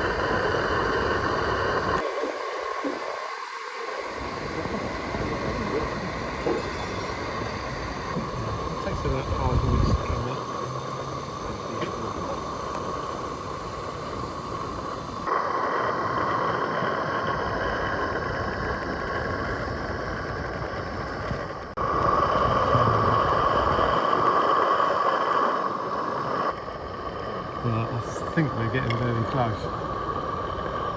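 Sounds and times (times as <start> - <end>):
gas burner hissing: 0.0 - 30.9.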